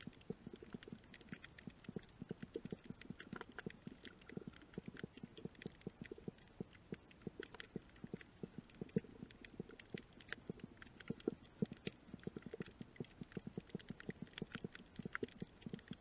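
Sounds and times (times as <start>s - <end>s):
underwater reef crackle and clicks: 0.0s - 16.0s.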